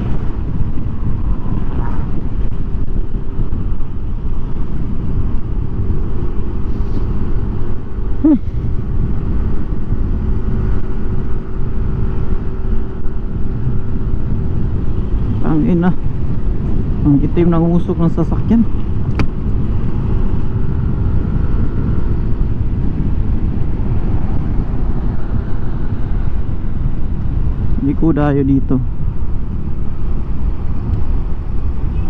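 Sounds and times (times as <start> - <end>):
motorcycle engine running: 0.0 - 32.0
road rumble: 0.0 - 32.0
wind noise: 0.0 - 32.0.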